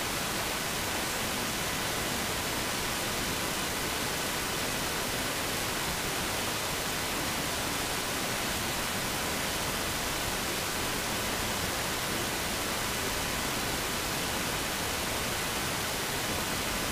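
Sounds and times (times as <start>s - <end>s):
steady static hiss: 0.0s - 16.9s.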